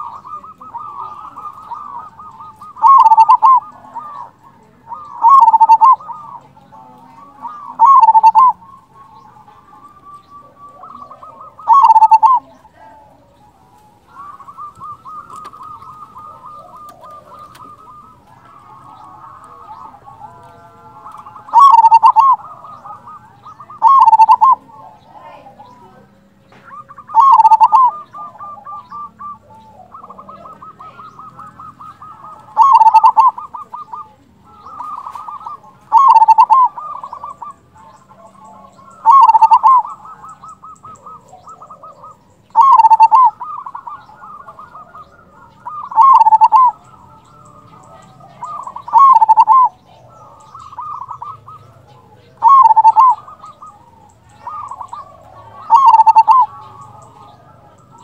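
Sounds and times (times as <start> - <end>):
soft stuttering bird notes: 0.0 - 12.7, 13.3 - 58.0
dove cooing: 0.0 - 58.0.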